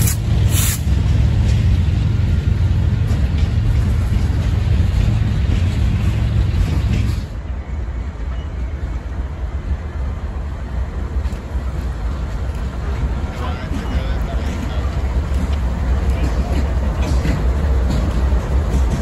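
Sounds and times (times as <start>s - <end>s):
distant diesel locomotives rumbling: 0.0s - 19.0s
freight train rumbling past: 0.0s - 19.0s.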